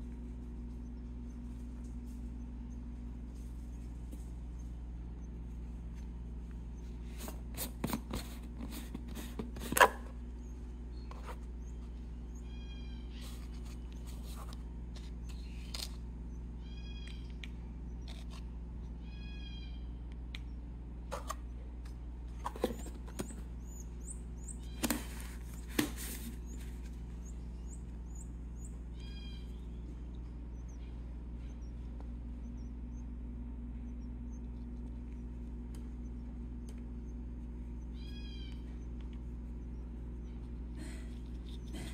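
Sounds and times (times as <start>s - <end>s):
steady low hum: 0.0s - 41.9s
finches nasal calls: 6.6s - 21.7s, 22.3s - 41.9s.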